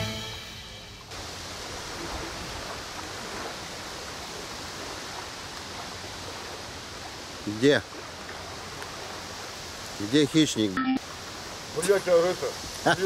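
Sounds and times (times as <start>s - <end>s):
wind hiss: 0.0s - 13.0s
choppy river water: 0.8s - 13.0s.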